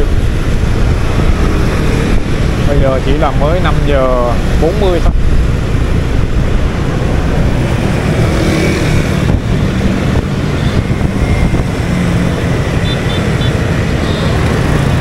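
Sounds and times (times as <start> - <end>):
motorbike traffic: 0.0 - 15.0
road noise: 0.0 - 15.0.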